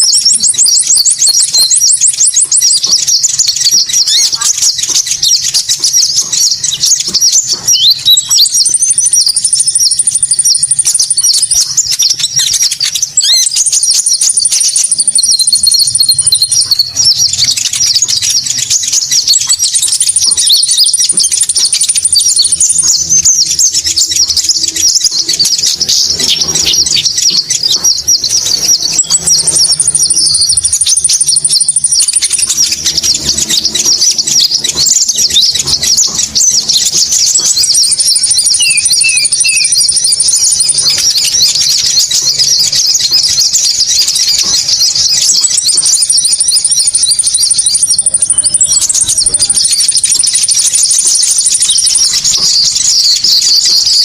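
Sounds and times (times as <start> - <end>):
rapid high bird chattering: 0.0 - 54.0
thin high bird trill: 0.0 - 54.0.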